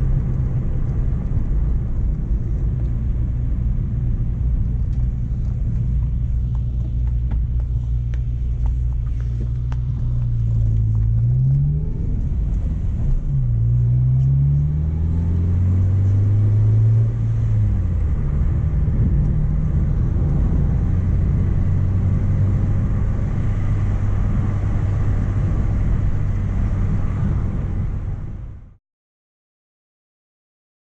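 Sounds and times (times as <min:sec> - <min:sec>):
car engine running: 0:00.0 - 0:28.7.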